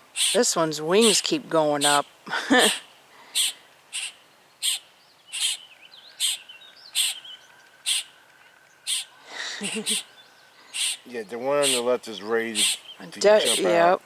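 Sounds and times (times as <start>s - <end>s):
nestlings begging squawks: 0.1s - 2.1s, 2.8s - 14.0s.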